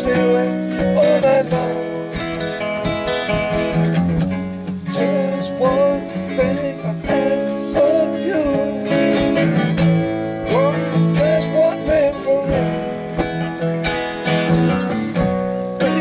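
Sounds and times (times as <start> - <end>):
acoustic guitars playing: 0.0 - 16.0.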